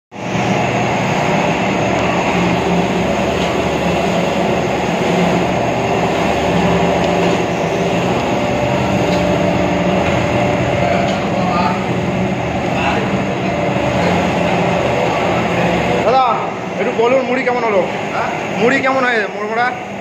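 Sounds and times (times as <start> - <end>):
machine hum: 0.1 - 20.0
rotating drum rumble and rattle: 0.2 - 16.3.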